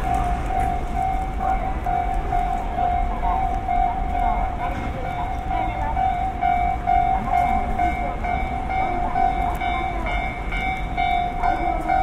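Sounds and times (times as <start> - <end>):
level crossing warning bell: 0.0 - 12.0.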